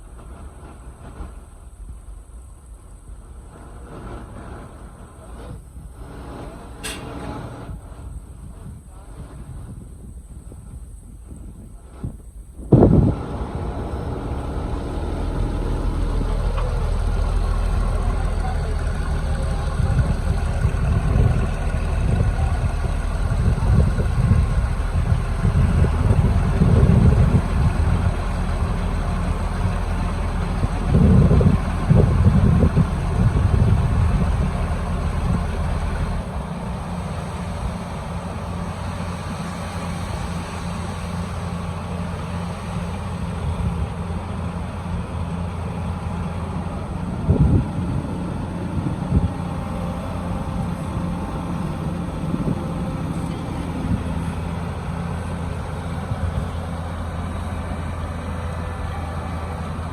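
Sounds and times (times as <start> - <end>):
construction machine engine running: 11.5 - 59.9.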